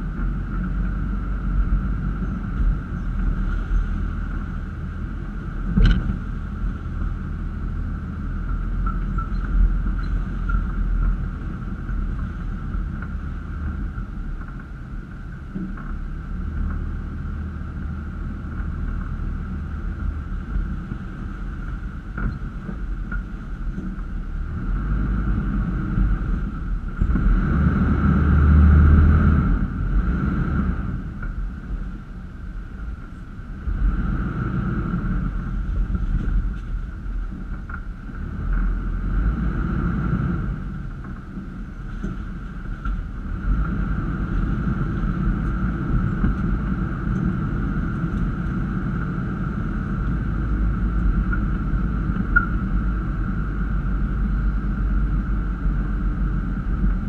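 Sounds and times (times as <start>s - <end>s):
car engine low rumble: 0.0s - 57.0s.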